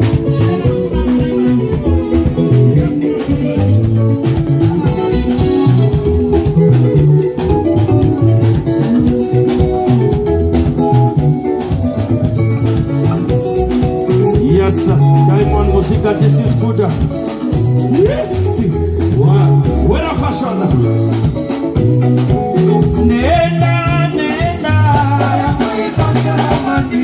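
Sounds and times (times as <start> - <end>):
bass guitar: 0.0 - 27.0
electric guitar lines: 0.0 - 27.0
steady drum beat: 0.0 - 27.0.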